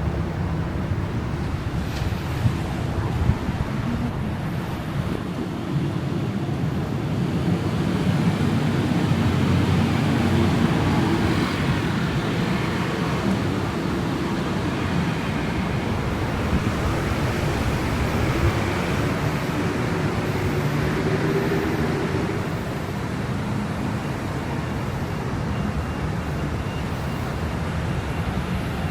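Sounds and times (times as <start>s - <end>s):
city traffic noise: 0.0s - 28.9s.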